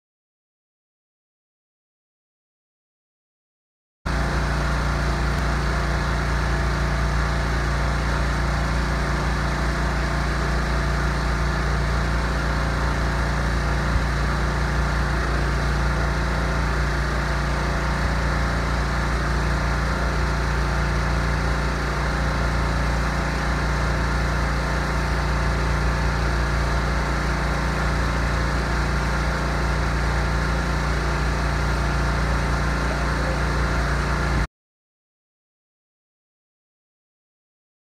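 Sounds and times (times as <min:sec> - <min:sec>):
pressure cleaner engine running: 0:04.1 - 0:34.5.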